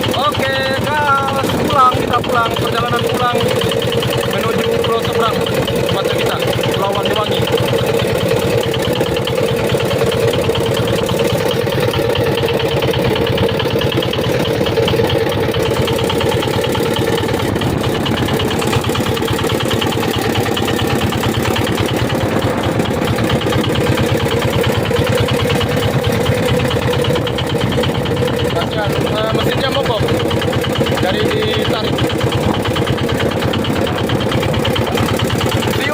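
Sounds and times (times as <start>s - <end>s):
boat engine chugging: 0.0s - 35.9s.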